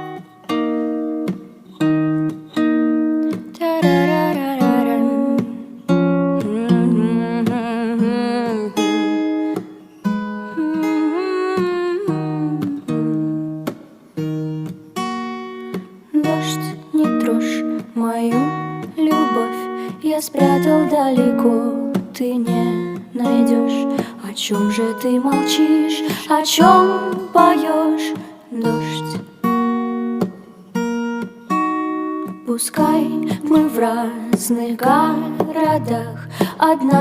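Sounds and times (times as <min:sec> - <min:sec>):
acoustic guitar chords: 0:00.0 - 0:37.0.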